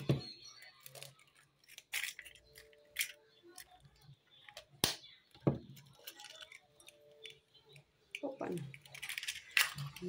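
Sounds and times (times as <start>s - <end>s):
eggshells cracking: 0.4s - 10.0s.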